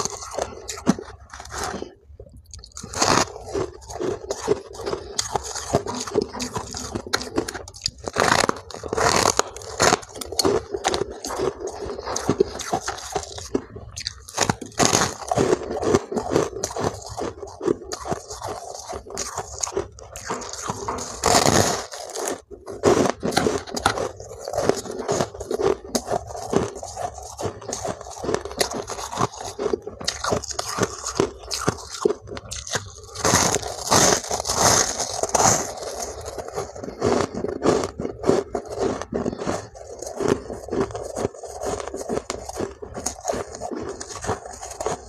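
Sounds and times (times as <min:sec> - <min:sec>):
ice crunching while chewed: 0:00.0 - 0:45.0.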